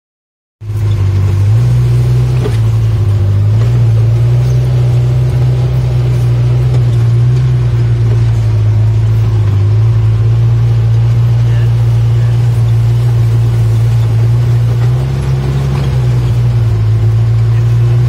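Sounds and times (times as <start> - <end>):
utility vehicle engine droning: 0.6 - 18.0.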